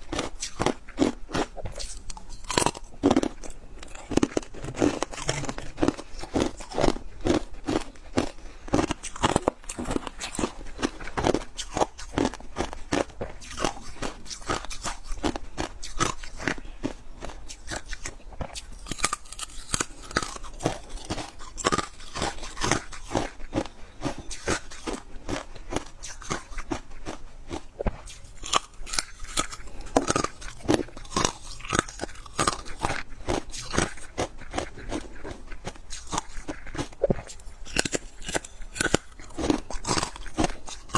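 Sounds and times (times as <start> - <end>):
frost being chewed: 0.0 - 40.9.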